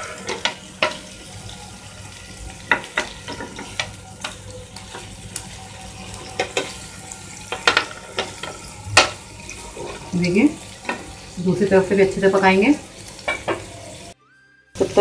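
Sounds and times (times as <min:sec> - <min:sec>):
patties sizzling in oil: 0:00.0 - 0:14.2, 0:14.8 - 0:15.0
sharp crackles and clicks: 0:00.0 - 0:14.2
spatula turning patties: 0:00.0 - 0:14.2.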